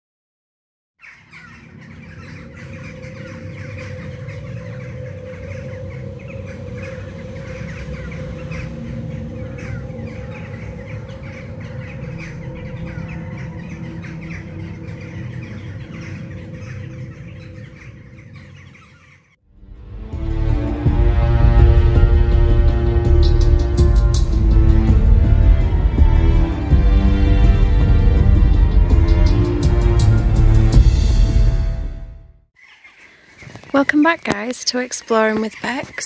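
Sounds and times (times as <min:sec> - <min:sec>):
birds squawking and calling: 0:01.0 - 0:19.4, 0:20.2 - 0:31.7, 0:32.6 - 0:36.0
steady low drone: 0:01.5 - 0:18.6, 0:19.5 - 0:32.4.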